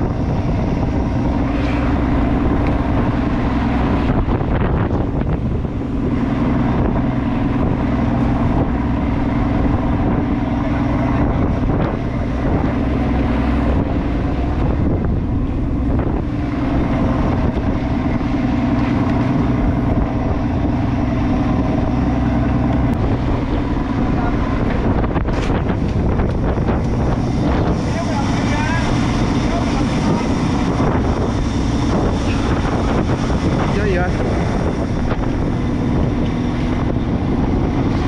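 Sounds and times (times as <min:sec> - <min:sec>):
boat engine running: 0:00.0 - 0:38.0
wind buffeting microphone: 0:00.0 - 0:38.0.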